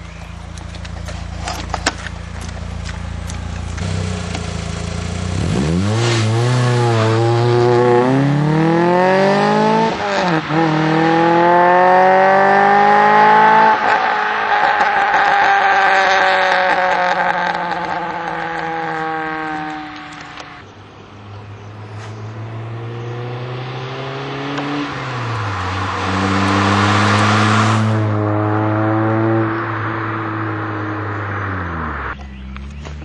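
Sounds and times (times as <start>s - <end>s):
car engine and exhaust: 0.0s - 33.0s.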